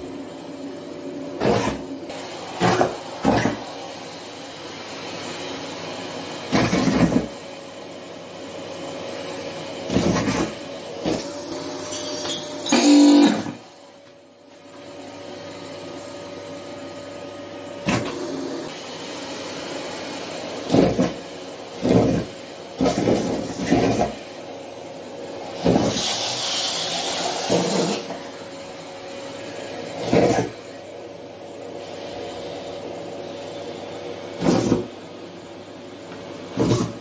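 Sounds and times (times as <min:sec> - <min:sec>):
vacuum cleaner motor whine: 0:00.0 - 0:37.0.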